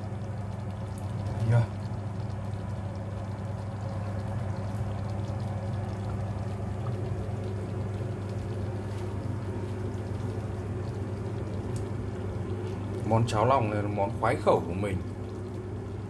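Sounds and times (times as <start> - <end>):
congee bubbling in a pot: 0.0 - 16.0
steady low hum: 0.0 - 16.0.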